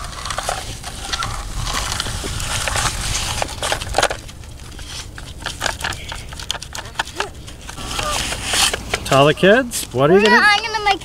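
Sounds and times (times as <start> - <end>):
small crackles and clicks: 0.0 - 9.2
toy scraping through mud: 0.0 - 9.8.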